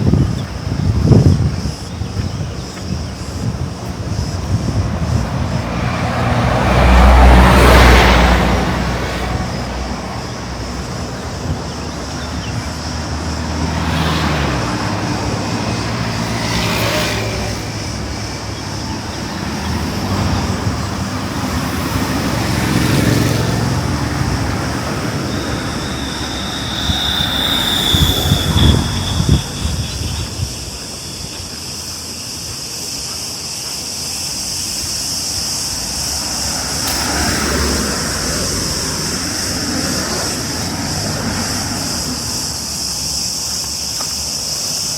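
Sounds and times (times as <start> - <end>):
cars passing on a road: 0.0 - 44.9
cicada buzzing: 0.0 - 44.9.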